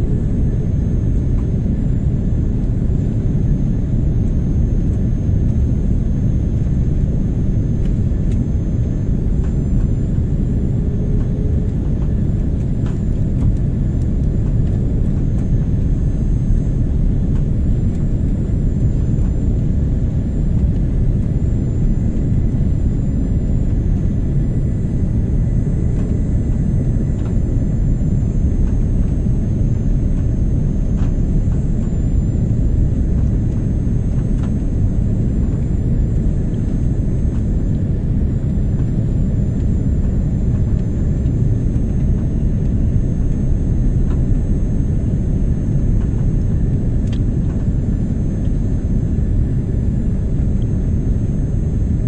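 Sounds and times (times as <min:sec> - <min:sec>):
jet engine rumble in cabin: 0:00.0 - 0:52.0.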